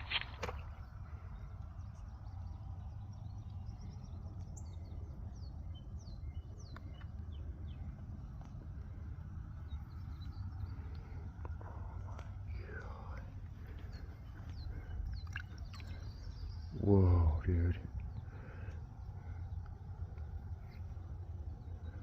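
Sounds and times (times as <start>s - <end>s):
birds chirping: 0.0s - 22.0s
low outdoor rumble: 0.0s - 22.0s.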